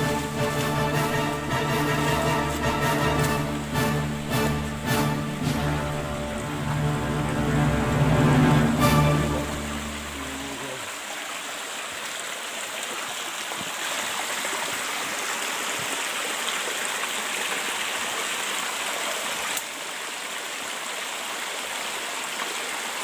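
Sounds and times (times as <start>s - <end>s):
stream rushing over stones: 0.0s - 23.0s.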